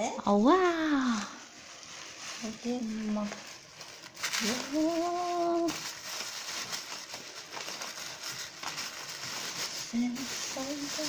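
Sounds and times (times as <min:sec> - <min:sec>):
tissue paper rustling: 0:00.4 - 0:11.0.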